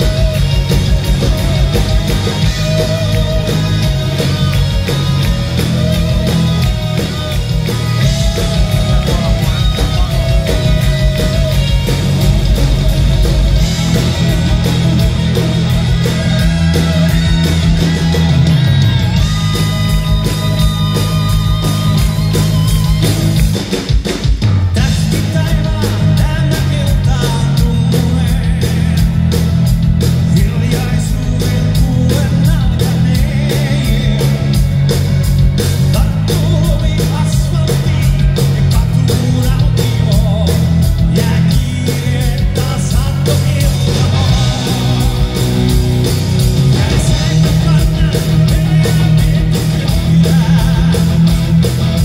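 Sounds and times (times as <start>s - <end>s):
live heavy metal band: 0.0s - 52.0s.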